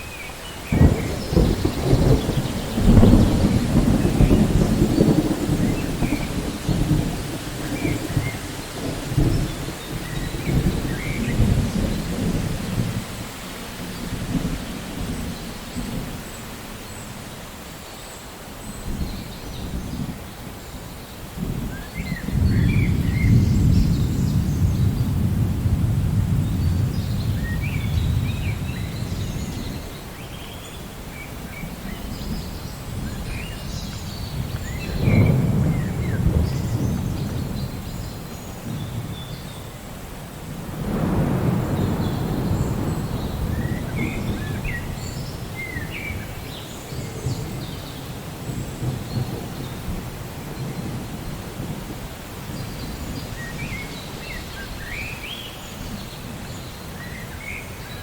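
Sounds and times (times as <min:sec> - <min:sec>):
thunder rumbling: 0:00.0 - 0:16.9, 0:21.3 - 0:30.2, 0:31.3 - 0:58.0
steady rain: 0:00.0 - 0:58.0.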